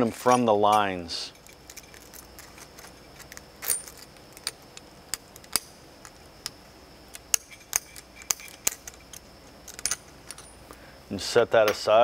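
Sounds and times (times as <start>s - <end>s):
light metallic clicks and clinks: 0.0s - 6.6s, 7.2s - 10.8s.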